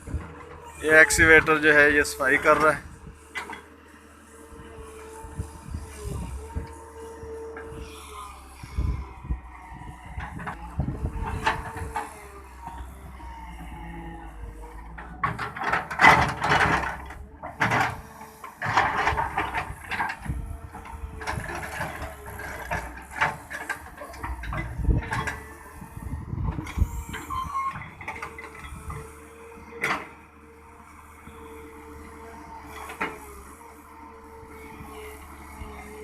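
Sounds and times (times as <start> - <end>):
excavator bucket clanking and scraping: 0.0 - 3.8, 4.4 - 30.3, 31.2 - 36.0
excavator diesel engine running: 0.0 - 36.0.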